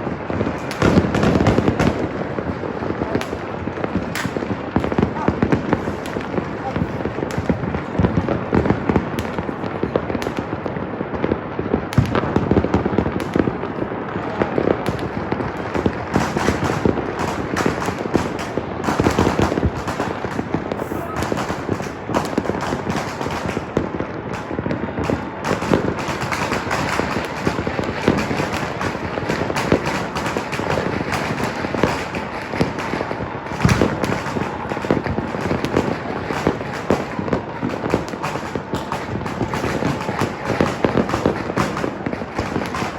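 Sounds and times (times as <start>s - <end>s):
fireworks and firecrackers banging: 0.0s - 42.9s.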